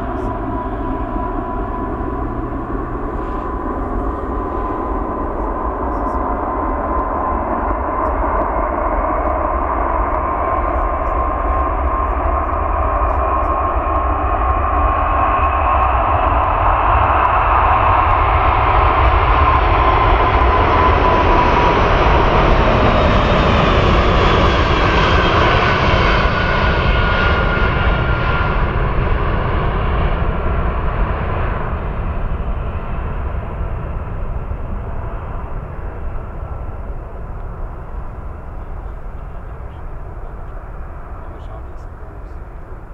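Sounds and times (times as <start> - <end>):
jet engines at take-off thrust: 0.0 - 42.9.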